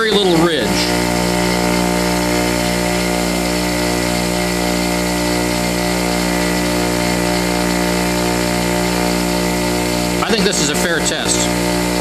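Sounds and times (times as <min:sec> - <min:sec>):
bench grinder motor humming: 0:00.0 - 0:12.0.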